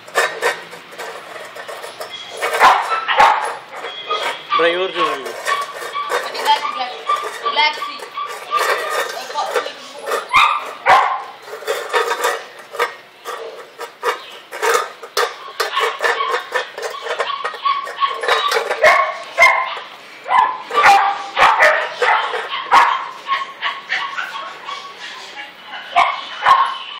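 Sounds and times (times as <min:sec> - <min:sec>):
metal food bowl clinking: 0:00.0 - 0:23.0
dog barking and yipping: 0:02.1 - 0:26.9.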